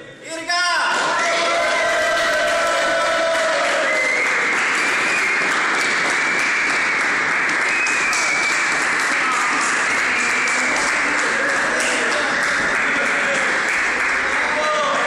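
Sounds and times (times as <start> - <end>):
people applauding: 1.0 - 15.0.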